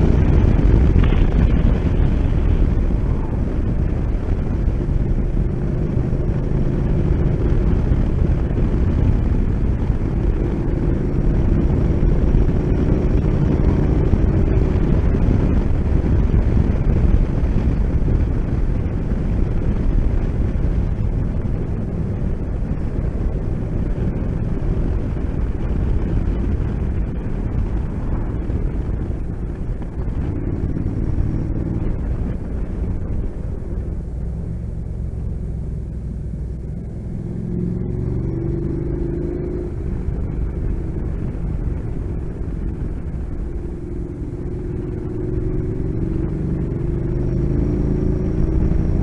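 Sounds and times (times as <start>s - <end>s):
motorcycle engine running: 0.0s - 49.0s
wind rush over microphone: 0.0s - 49.0s.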